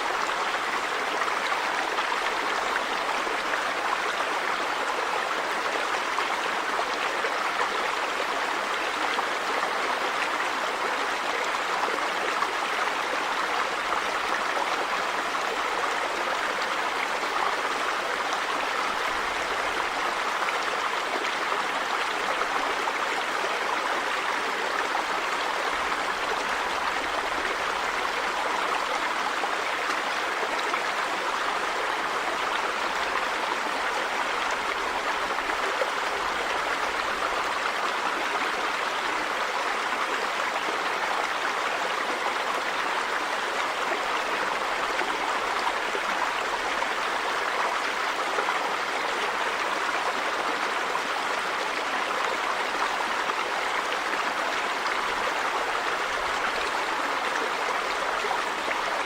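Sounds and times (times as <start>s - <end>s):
river water over rocks: 0.0s - 59.0s.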